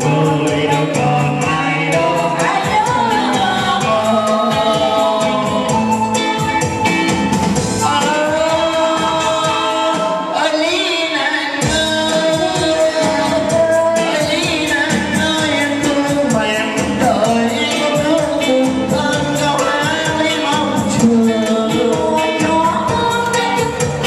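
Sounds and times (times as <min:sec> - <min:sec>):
live singing into microphones: 0:00.0 - 0:24.0.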